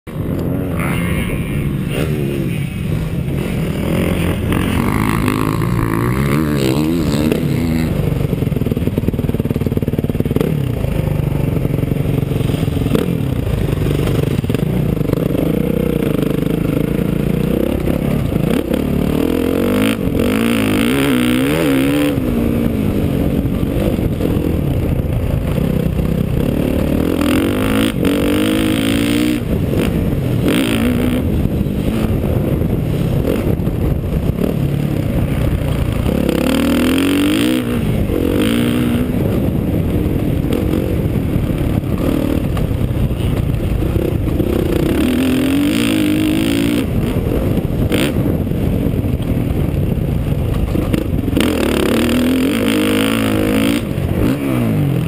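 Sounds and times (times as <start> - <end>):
dirt bike engine revving: 0.1 - 48.4, 50.9 - 55.0.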